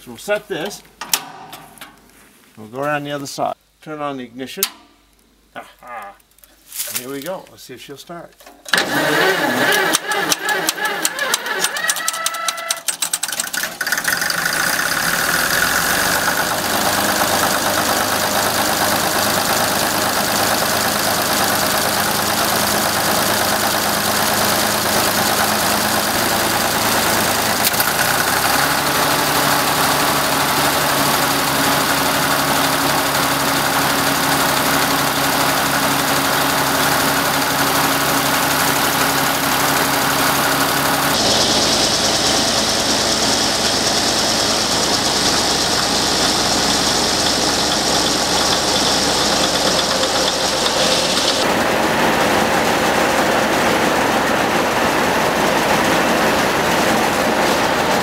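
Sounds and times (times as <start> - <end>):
engine starting and running: 1.0 - 2.0, 8.4 - 58.0.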